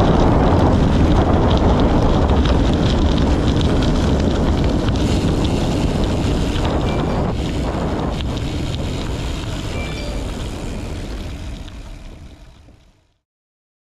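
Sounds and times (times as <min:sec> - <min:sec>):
wind rushing over microphone: 0:00.0 - 0:12.8.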